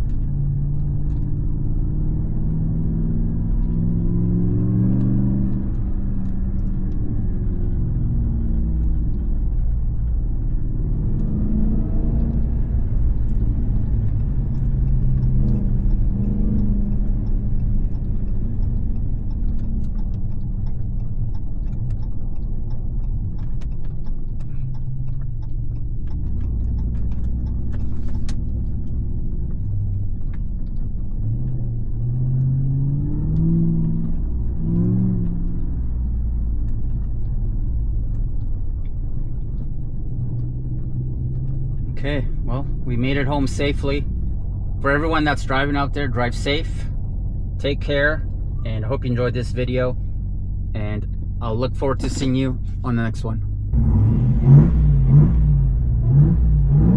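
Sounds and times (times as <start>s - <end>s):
truck engine with deep exhaust: 0.0s - 56.9s.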